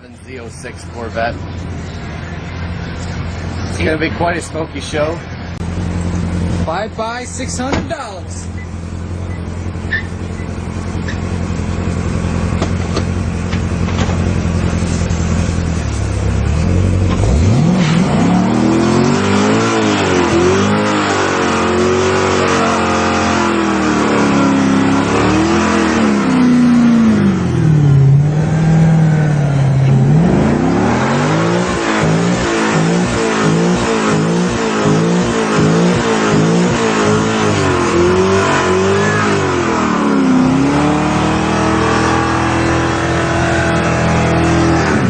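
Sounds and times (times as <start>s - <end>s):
sports car engine revving: 0.3s - 45.0s
spinning tyres hissing: 8.5s - 45.0s.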